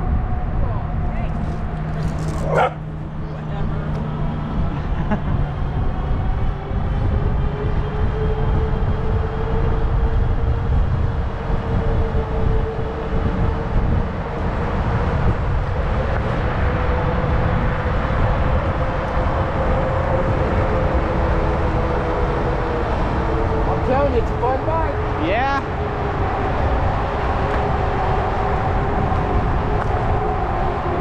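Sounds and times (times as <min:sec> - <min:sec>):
e-bike motor whine: 0:00.0 - 0:31.0
wind buffeting microphone: 0:00.0 - 0:31.0.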